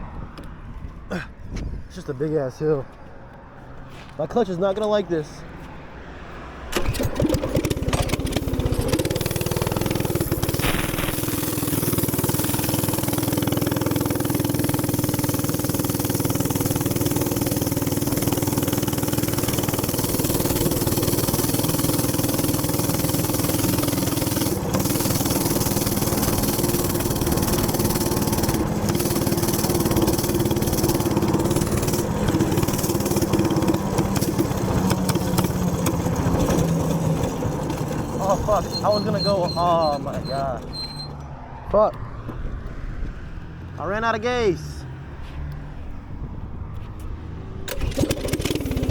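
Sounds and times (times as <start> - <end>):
minibike engine at high revs: 6.6 - 44.2, 44.8 - 48.9.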